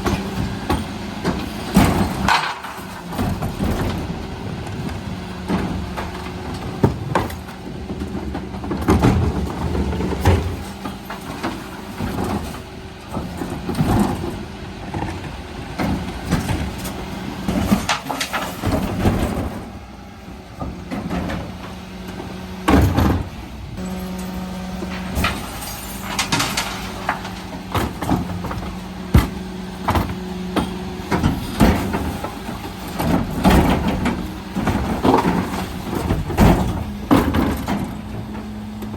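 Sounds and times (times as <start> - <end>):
bins knocking and clattering: 0.0 - 19.8, 20.5 - 38.9
truck engine humming: 0.0 - 38.9.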